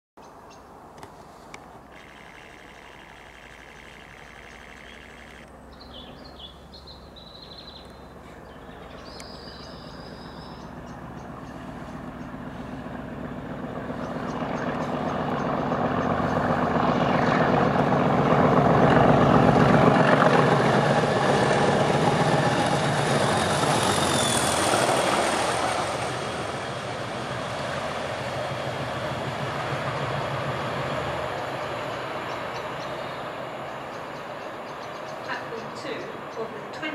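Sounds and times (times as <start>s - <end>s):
diesel locomotives passing: 0.7s - 36.9s.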